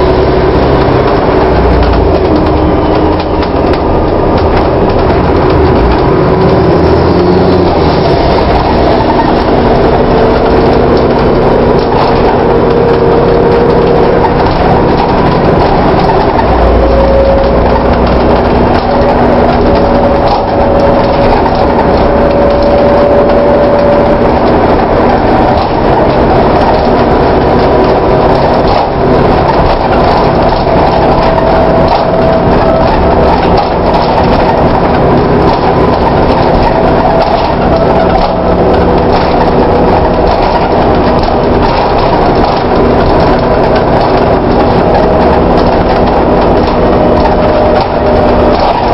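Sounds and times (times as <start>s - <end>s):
bus running: 0.0s - 48.9s
rattling: 0.0s - 48.9s
steady whining tone: 0.0s - 48.9s.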